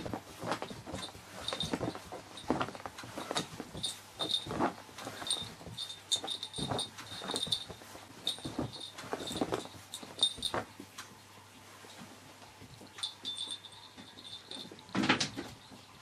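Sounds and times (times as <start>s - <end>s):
cat collar bell jingling: 0.0s - 10.8s, 12.9s - 15.5s.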